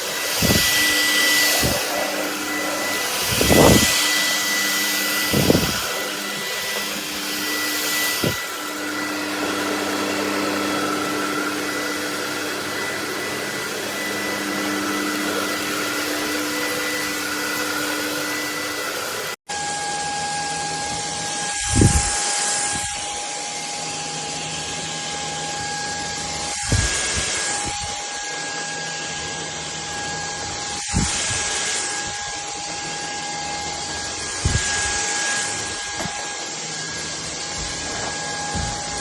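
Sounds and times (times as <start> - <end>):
stick vacuum running: 0.0 - 39.0.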